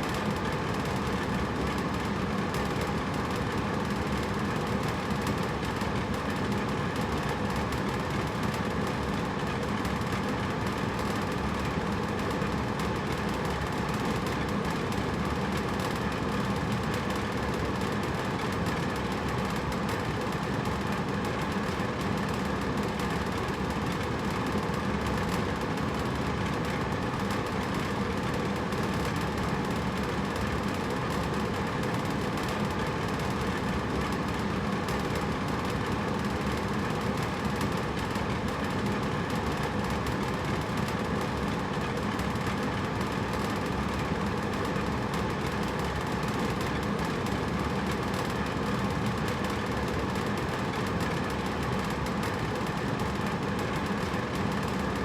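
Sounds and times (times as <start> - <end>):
air conditioner running: 0.0 - 55.0.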